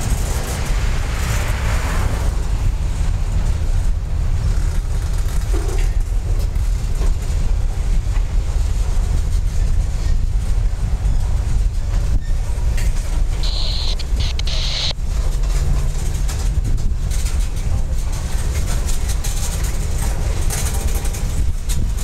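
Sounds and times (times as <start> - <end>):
steel wheels rumbling on rail: 0.0 - 22.0.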